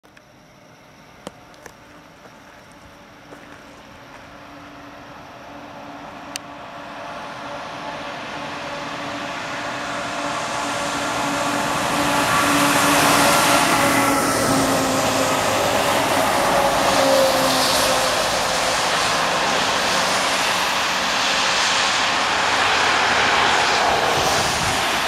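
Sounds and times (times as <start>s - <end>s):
fire engines approaching: 0.0s - 25.0s
tyres on wet road: 1.2s - 25.0s.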